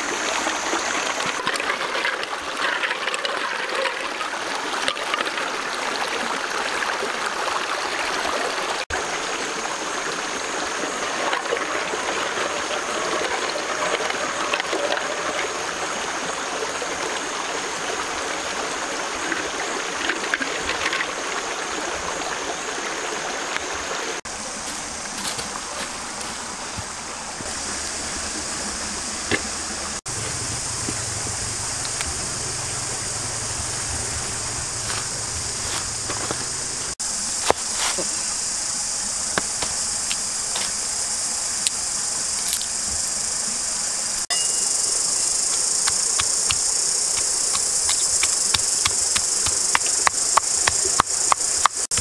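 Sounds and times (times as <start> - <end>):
high insect drone: 0.0 - 4.6, 7.6 - 52.0
stream trickling over rocks: 0.0 - 38.2, 44.2 - 52.0.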